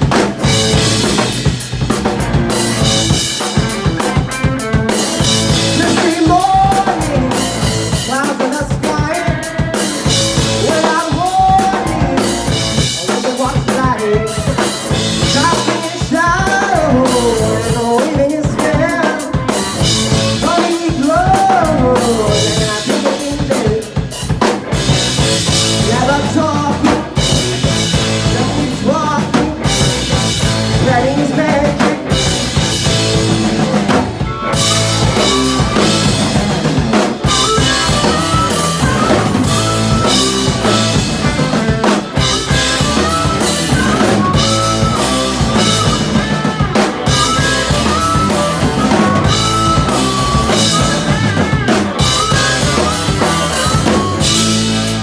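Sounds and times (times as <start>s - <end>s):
drum kit beat: 0.0s - 55.0s
rock band playing: 0.0s - 55.0s.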